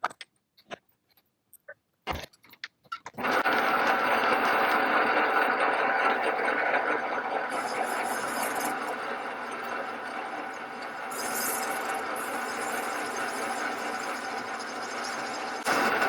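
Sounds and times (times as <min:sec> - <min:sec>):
machine tool cutting metal: 0:03.1 - 0:16.0.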